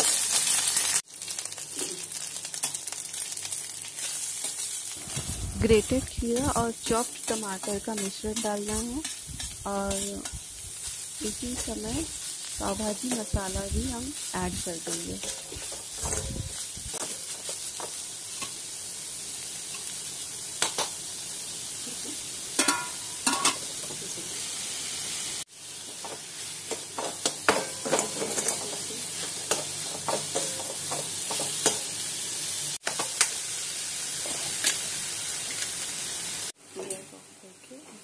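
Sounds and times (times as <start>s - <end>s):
vegetables sizzling in pan: 0.0s - 37.0s.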